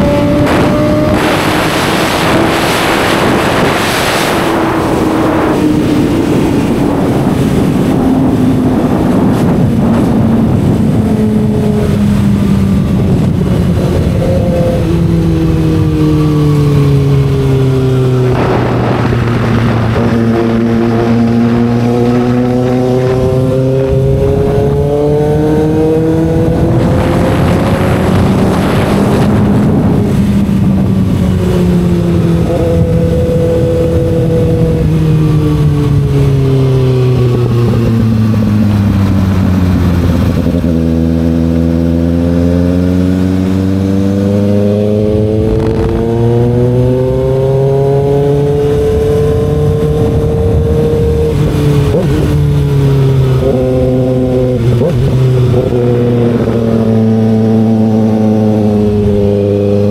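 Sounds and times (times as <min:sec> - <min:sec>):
rush of noise: 0:00.0 - 0:41.7, 0:42.4 - 0:59.9
motorcycle engine revving: 0:00.0 - 0:59.9.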